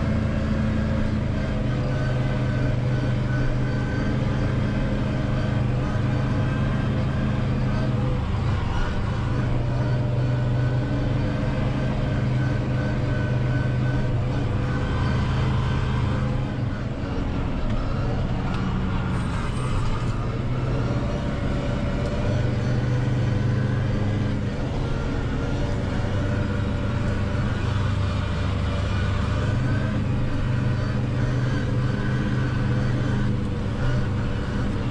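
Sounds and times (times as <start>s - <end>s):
front mower running: 0.0s - 34.9s
tractor engine running under load: 0.0s - 34.9s.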